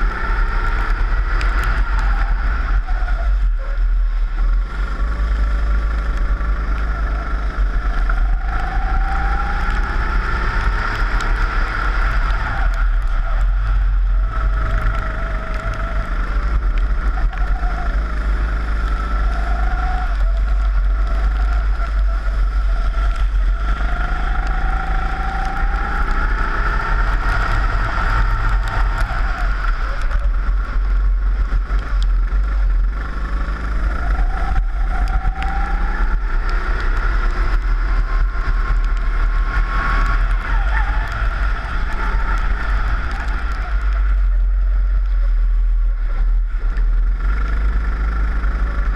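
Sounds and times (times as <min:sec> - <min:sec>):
kart engine revving: 0:00.0 - 0:48.9
wind rumble on microphone: 0:00.0 - 0:48.9.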